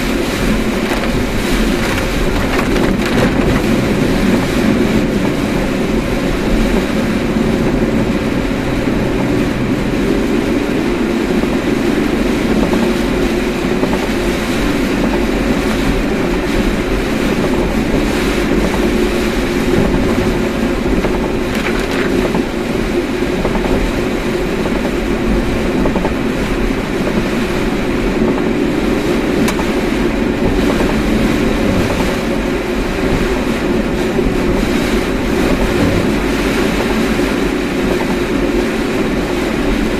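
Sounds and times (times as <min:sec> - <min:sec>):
road and engine noise inside car: 0:00.0 - 0:39.9.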